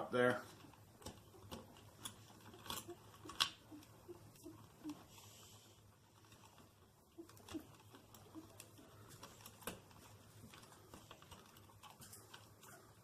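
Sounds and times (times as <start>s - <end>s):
electrical wires clicking and rustling: 0.0s - 13.0s.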